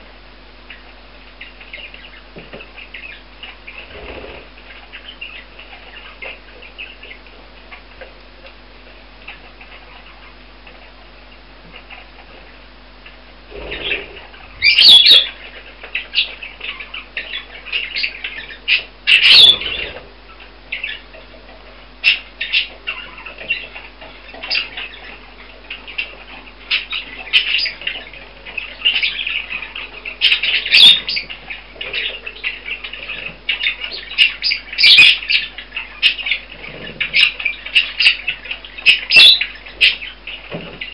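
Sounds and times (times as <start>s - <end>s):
budgerigars chirping and chattering: 0.7s - 8.2s, 9.2s - 40.9s.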